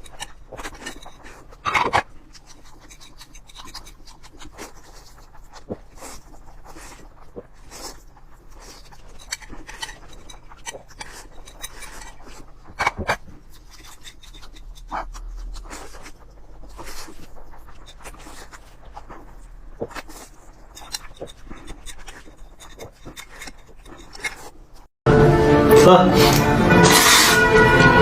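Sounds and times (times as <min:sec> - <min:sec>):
person slurping and chewing noodles: 0:00.0 - 0:24.9, 0:26.7 - 0:27.6.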